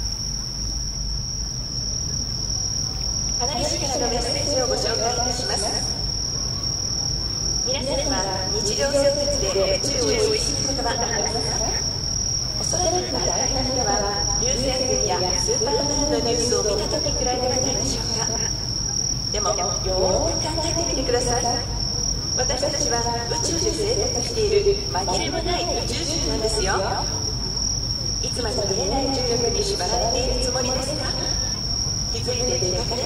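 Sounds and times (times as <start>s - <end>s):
insects chirring: 0.0s - 33.0s
people talking: 3.4s - 12.0s, 12.6s - 33.0s.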